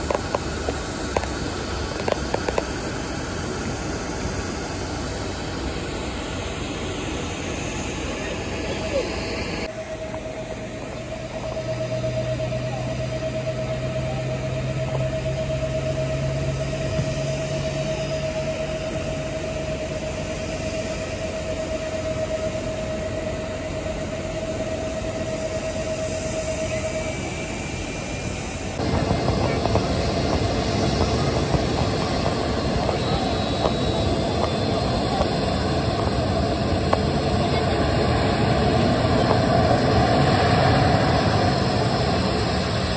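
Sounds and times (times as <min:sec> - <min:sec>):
jet engine noise taxiing: 0:00.0 - 0:42.9
jet engines idling: 0:00.0 - 0:42.9.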